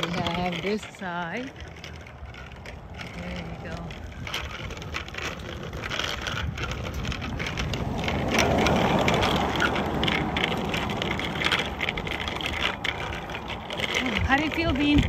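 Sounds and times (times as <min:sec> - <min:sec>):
bicycle tyres rolling on asphalt: 0:00.0 - 0:15.0
wind on microphone: 0:02.2 - 0:15.0.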